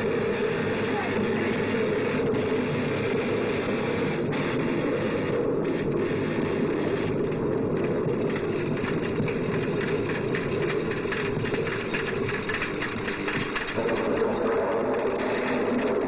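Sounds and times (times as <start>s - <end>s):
storm wind rushing: 0.0s - 16.0s.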